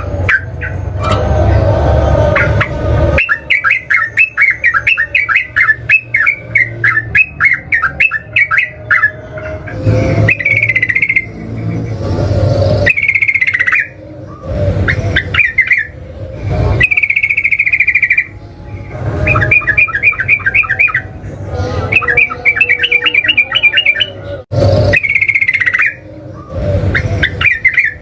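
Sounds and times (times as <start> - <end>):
bird singing bubbly phrases: 2.4 - 9.2, 9.8 - 16.0, 16.8 - 21.2, 21.8 - 28.0.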